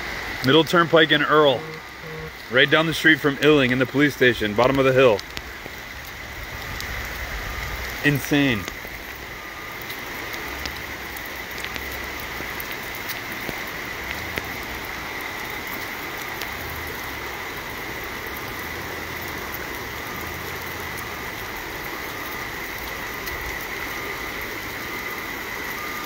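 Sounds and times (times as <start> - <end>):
heavy rain hissing: 0.0 - 26.0.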